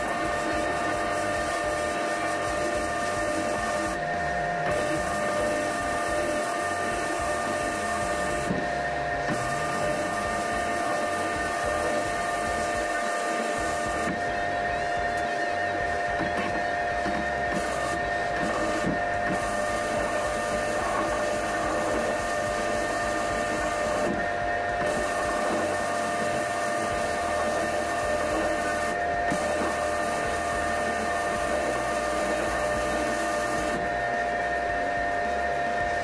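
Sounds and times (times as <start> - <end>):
welder arc crackling hiss: 0.0 - 33.9.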